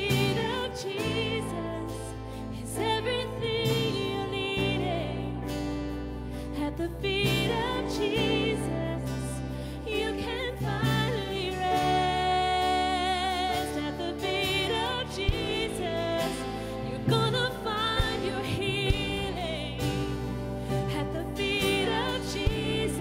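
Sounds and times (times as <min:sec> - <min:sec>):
women singing: 0:00.0 - 0:05.7, 0:06.4 - 0:23.0
worship band playing: 0:00.0 - 0:23.0.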